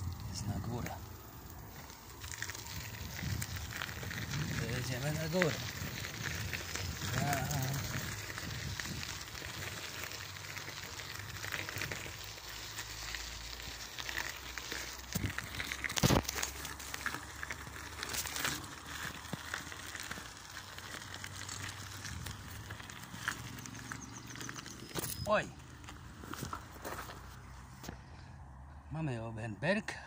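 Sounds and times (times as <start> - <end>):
bicycle ridden along a path: 0.0 - 28.9.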